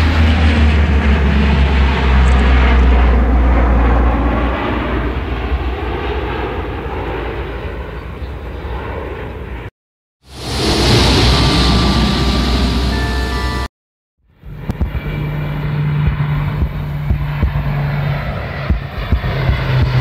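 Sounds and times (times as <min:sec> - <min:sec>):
propeller aircraft flying overhead: 0:00.0 - 0:09.7, 0:10.3 - 0:13.7, 0:14.3 - 0:20.0.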